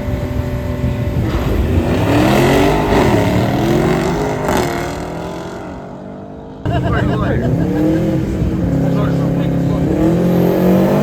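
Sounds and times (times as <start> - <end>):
drag racing engines accelerating: 0.0 - 11.0.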